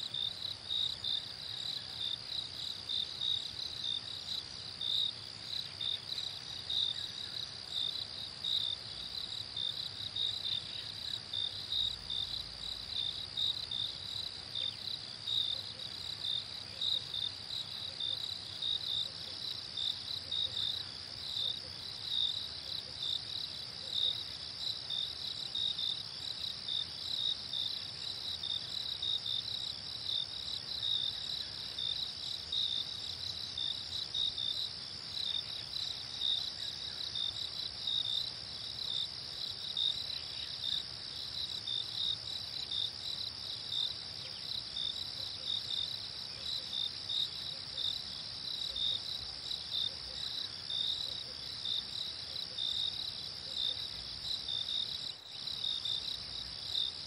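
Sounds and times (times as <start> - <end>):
pulsing cricket chirp: 0.0 - 57.0.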